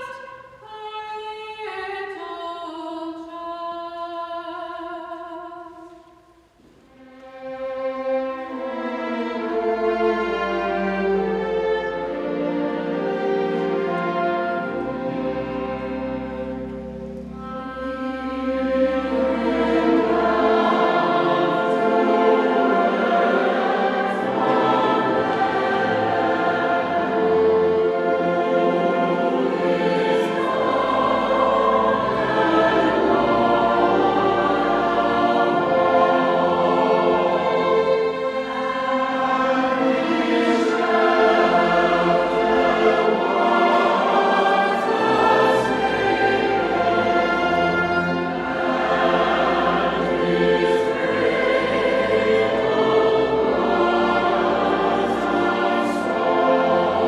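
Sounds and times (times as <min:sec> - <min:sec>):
choir singing: 0:00.0 - 0:06.1, 0:07.0 - 0:57.0
orchestra playing: 0:07.0 - 0:57.0.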